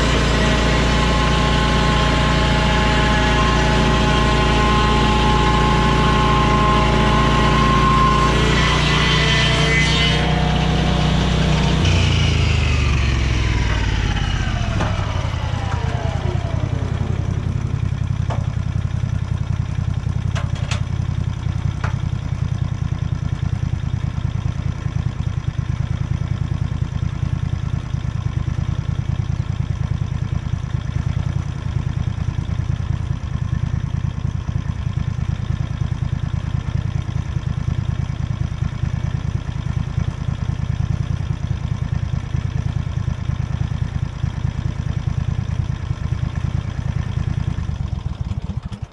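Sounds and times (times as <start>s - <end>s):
engine winding down to idle: 0.0s - 48.9s.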